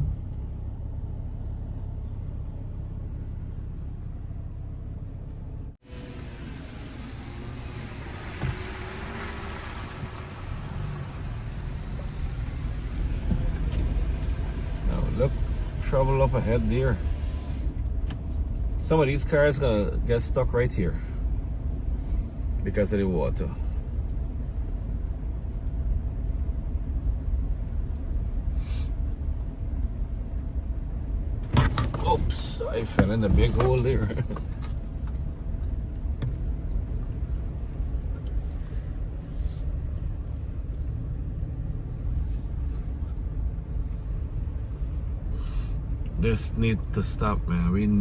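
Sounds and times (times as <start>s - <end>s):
truck engine and road rumble: 0.0s - 48.0s.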